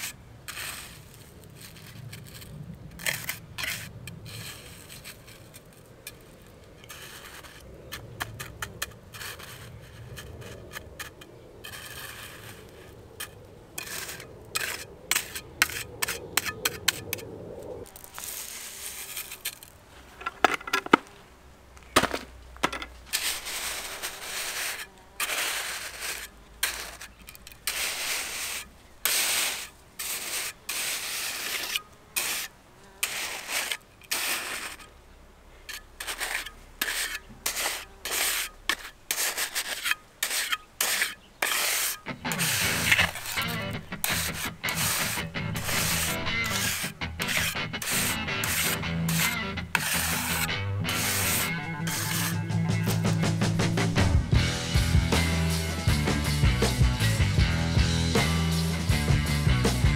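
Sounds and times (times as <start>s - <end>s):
metal trowel scraping gravel: 0.0s - 21.2s, 21.8s - 35.0s, 35.6s - 59.9s.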